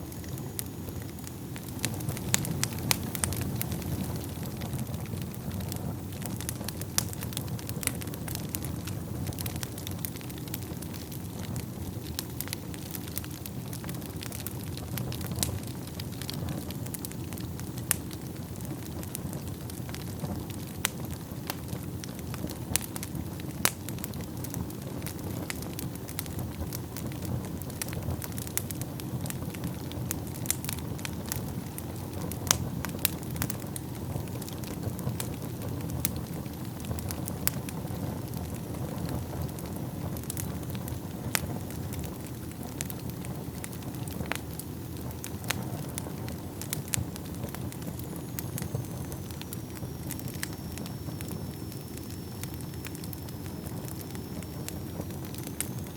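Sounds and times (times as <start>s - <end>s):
low rumble of flames: 0.0s - 55.9s
wood crackling and popping: 0.0s - 55.9s.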